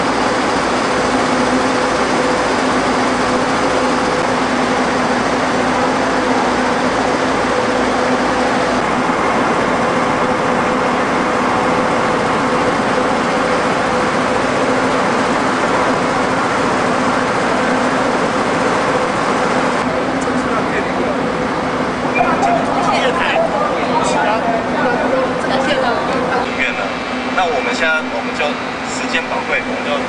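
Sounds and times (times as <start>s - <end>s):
train equipment whirring hum: 0.0s - 30.0s.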